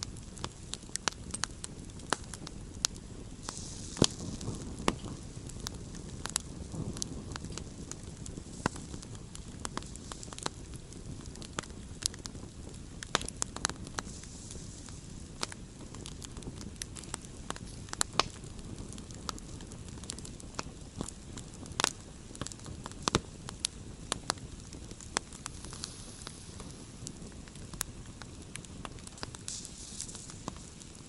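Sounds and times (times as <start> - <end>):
campfire crackling and popping: 0.0 - 31.0
low noise of burning fire: 0.0 - 31.0.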